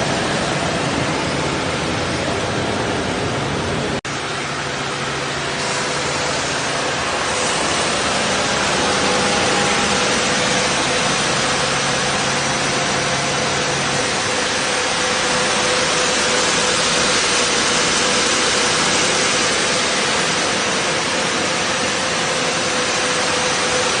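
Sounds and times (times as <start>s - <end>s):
low drone: 0.0s - 24.0s
sanding machine rushing: 0.0s - 24.0s
steady hum: 0.0s - 24.0s.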